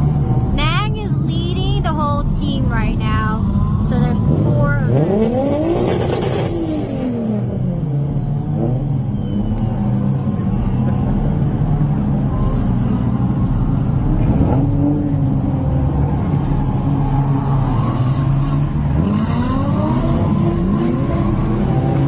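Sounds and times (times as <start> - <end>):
car engines idling: 0.0 - 22.0
engines revving: 0.0 - 22.0.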